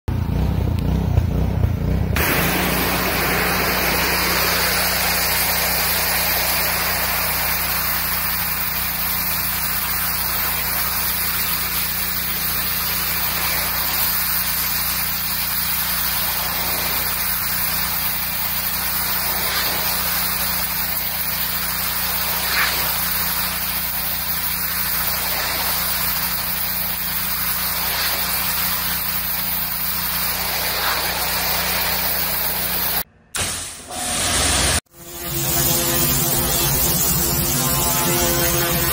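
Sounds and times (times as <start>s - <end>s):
pressure washer hum: 0.1s - 38.9s
water spray hissing on fence: 2.2s - 33.0s, 34.2s - 38.9s.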